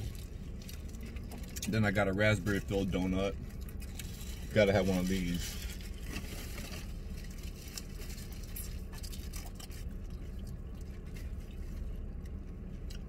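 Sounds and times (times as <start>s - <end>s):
low steady rumble: 0.0s - 13.0s
wet chewing noises: 0.0s - 13.0s.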